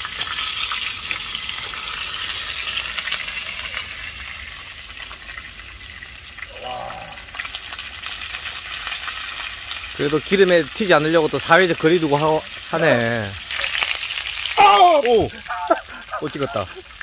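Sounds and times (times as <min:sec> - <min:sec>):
dumplings sizzling in fat: 0:00.0 - 0:17.0.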